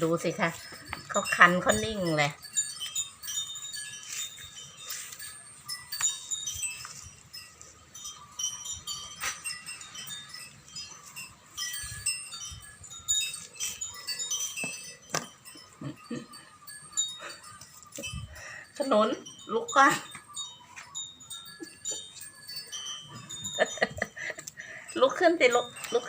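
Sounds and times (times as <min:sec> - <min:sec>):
wind chimes tinkling: 0:00.0 - 0:26.0.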